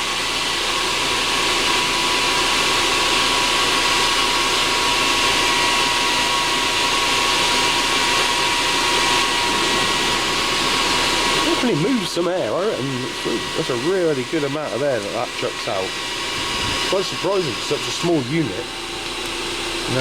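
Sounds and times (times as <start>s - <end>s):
heater blower fan whining: 0.0s - 20.0s.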